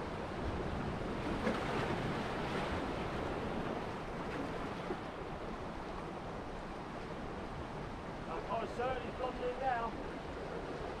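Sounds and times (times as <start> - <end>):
surf washing over rocks: 0.0 - 11.0.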